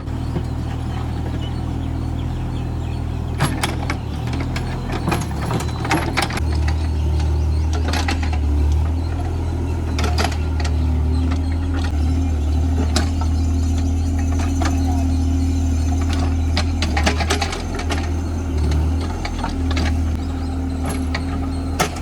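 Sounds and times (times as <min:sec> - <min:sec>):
excavator diesel engine running: 0:00.0 - 0:22.0
metallic clanks of digging gear: 0:03.4 - 0:22.0.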